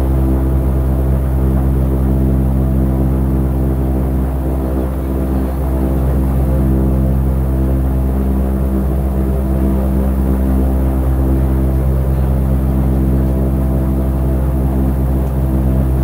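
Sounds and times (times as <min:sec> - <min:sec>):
airship engines and propellers droning: 0:00.0 - 0:16.0.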